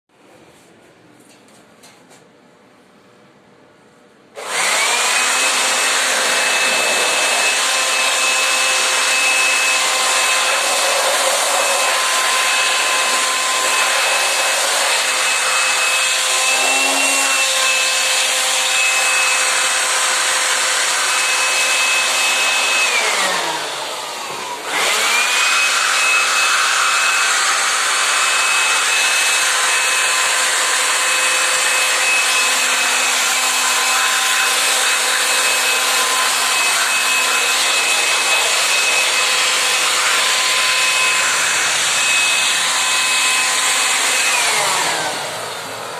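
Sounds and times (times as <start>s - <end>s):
small electric motor whining: 4.4s - 45.8s.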